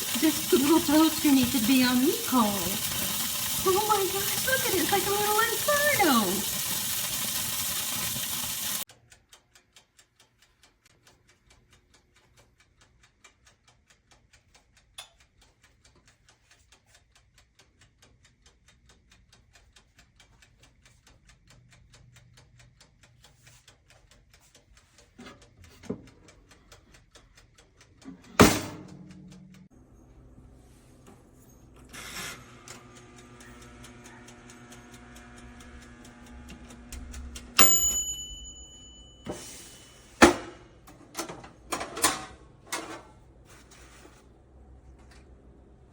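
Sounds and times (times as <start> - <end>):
dial timer ticking: 0.0 - 29.8, 31.8 - 40.1.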